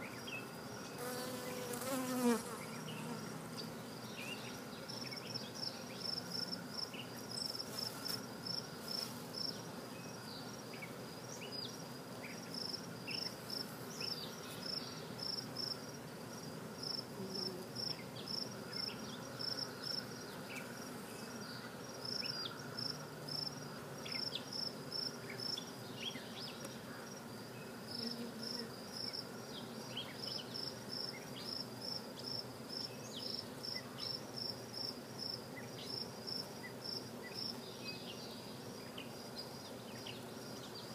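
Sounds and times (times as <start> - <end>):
bee hive humming: 0.0 - 40.9
cricket chirping: 0.0 - 40.9.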